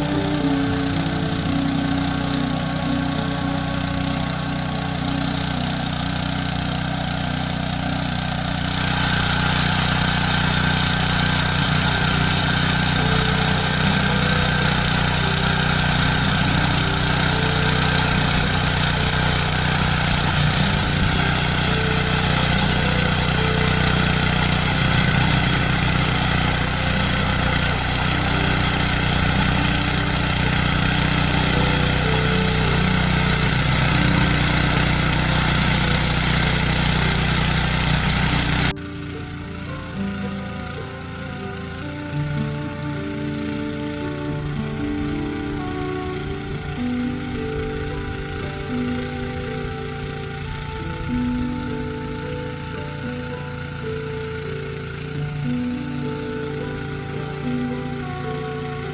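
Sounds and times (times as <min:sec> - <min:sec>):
tiller engine running: 0:00.0 - 0:58.9.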